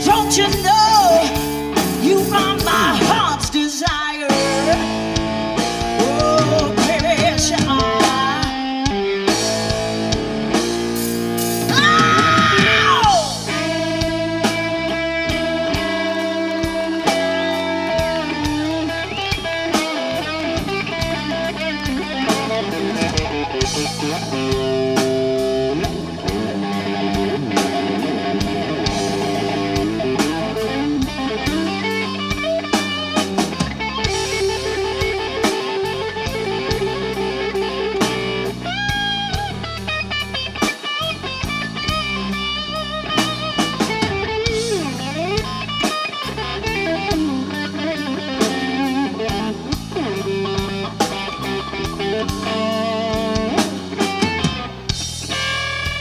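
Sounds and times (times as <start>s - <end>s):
drum kit: 0.0s - 56.0s
electric bass: 0.0s - 56.0s
lead electric guitar: 0.0s - 56.0s.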